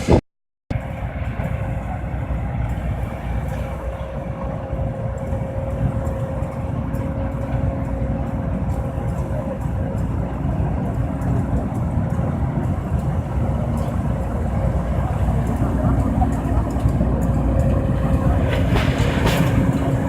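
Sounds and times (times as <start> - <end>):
combine harvester rumble: 0.0 - 20.0.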